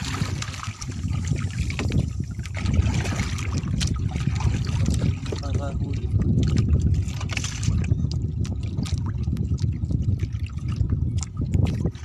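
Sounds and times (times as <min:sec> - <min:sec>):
paddle splashing in water: 0:00.0 - 0:12.0
steady low rumble: 0:00.0 - 0:12.0.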